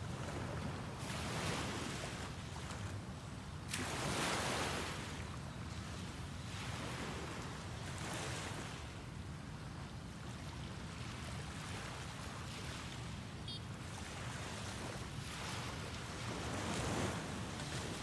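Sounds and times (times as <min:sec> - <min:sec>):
waves washing on sandy beach: 0:00.0 - 0:18.0.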